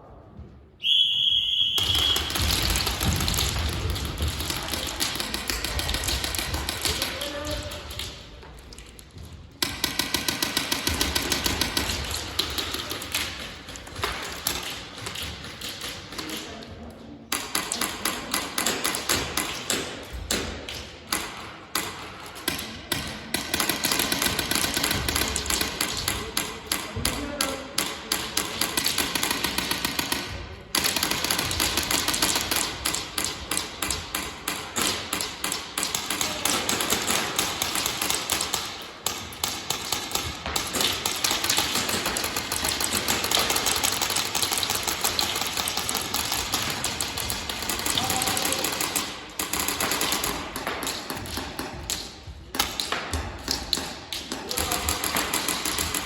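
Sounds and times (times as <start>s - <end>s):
airsoft guns firing: 1.5s - 8.2s, 9.6s - 16.4s, 17.3s - 56.0s.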